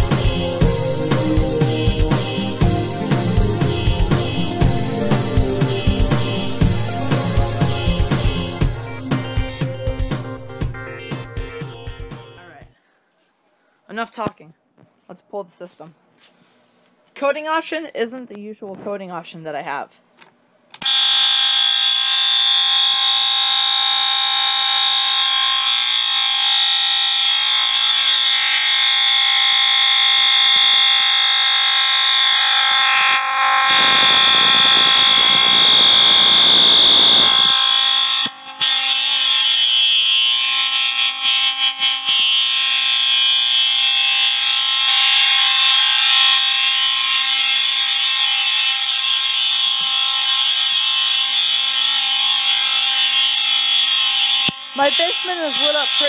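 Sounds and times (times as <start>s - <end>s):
fire alarm horns blaring: 0.0s - 12.7s, 20.8s - 56.0s.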